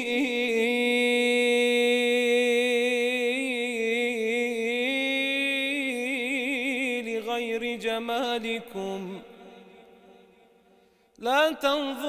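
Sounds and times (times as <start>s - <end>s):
man singing unaccompanied: 0.0s - 10.3s, 11.2s - 12.0s.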